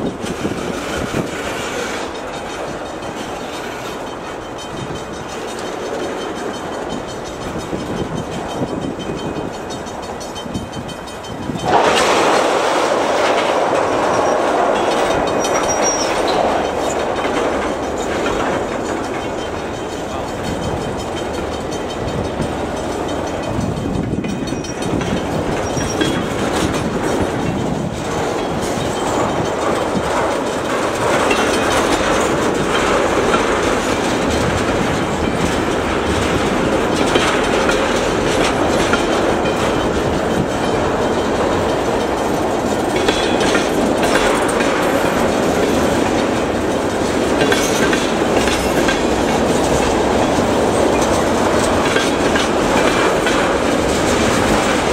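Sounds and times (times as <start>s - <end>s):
freight train wheels rumbling on rails: 0.0s - 54.9s.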